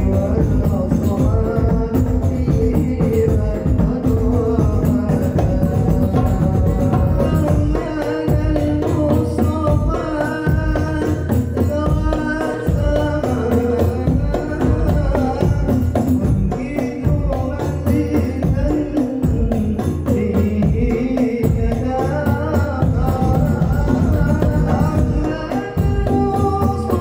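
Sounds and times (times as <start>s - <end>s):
frame drums and bass drum: 0.0s - 27.0s.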